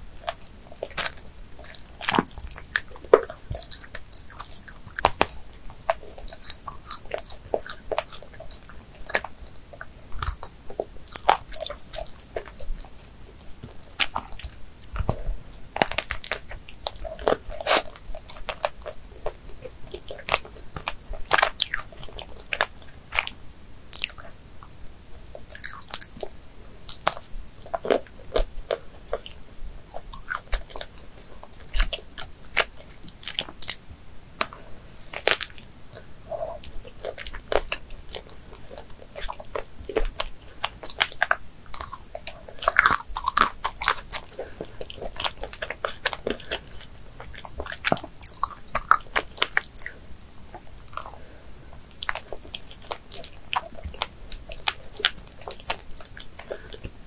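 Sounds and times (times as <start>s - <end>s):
chewing with wet mouth clicks: 0.2s - 24.7s, 25.4s - 57.0s.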